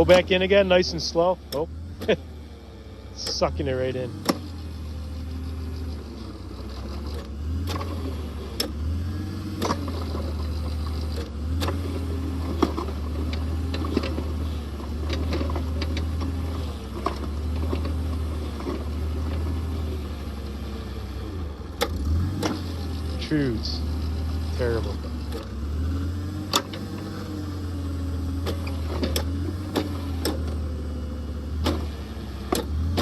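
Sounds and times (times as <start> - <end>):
auger engine running under load: 0.0 - 33.0.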